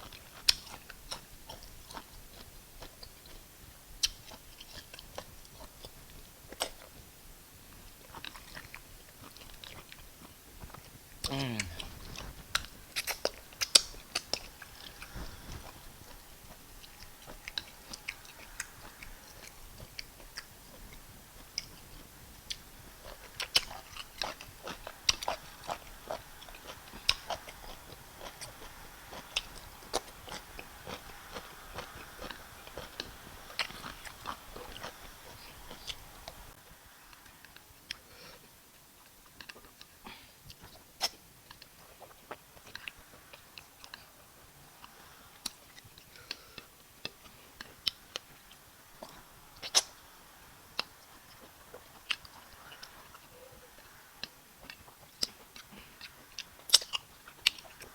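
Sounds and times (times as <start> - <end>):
person chewing with lip smacks: 0.0 - 7.0, 7.8 - 36.5, 37.1 - 50.0, 50.7 - 57.9.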